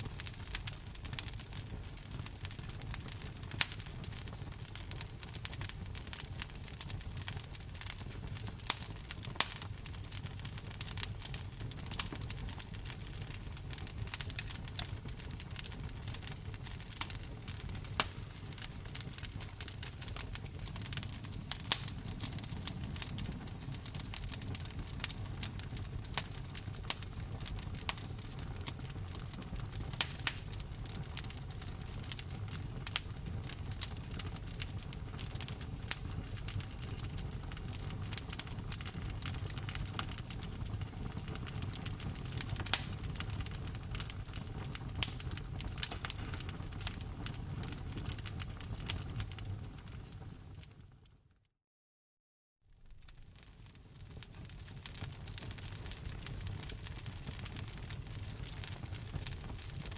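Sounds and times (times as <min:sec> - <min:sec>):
wood fire rumbling: 0:00.0 - 0:50.9, 0:52.8 - 0:59.9
fire crackling and popping: 0:00.0 - 0:51.2, 0:52.7 - 0:59.9.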